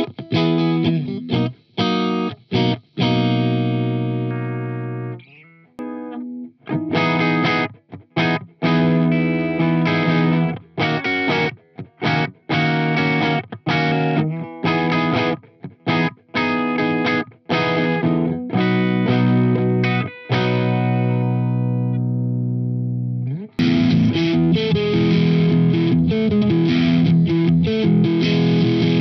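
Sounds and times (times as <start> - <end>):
clean electric guitar: 0.0 - 29.0.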